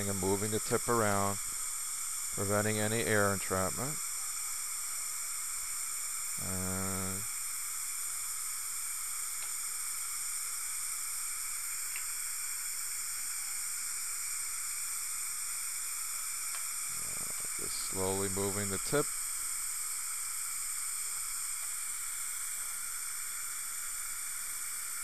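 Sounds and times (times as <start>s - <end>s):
dental suction hissing: 0.0s - 25.0s.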